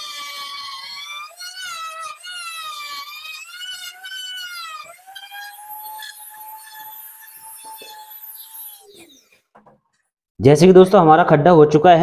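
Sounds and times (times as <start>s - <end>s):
router motor whining cutting wood: 0.0s - 9.8s.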